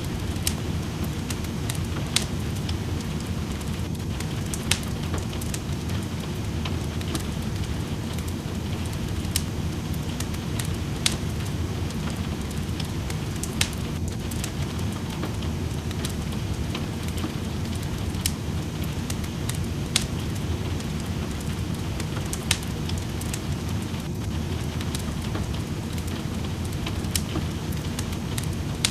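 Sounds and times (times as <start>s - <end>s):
steady rain hiss: 0.0s - 28.9s
wood fire crackling and popping: 0.0s - 28.9s.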